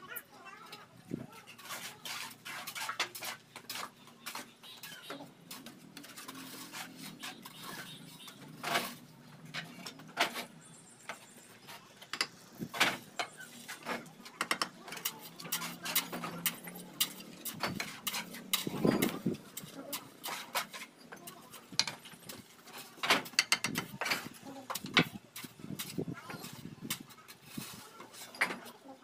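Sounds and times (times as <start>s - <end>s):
trowels scraping wet mortar: 1.4s - 10.7s, 11.4s - 28.8s.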